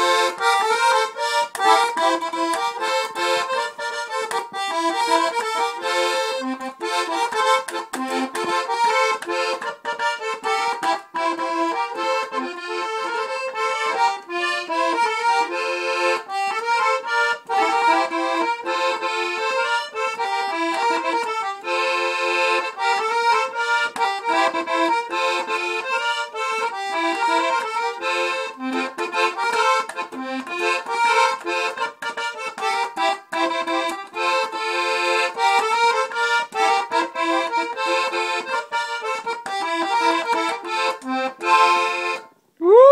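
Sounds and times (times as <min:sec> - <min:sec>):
button accordion playing: 0:00.0 - 0:42.4.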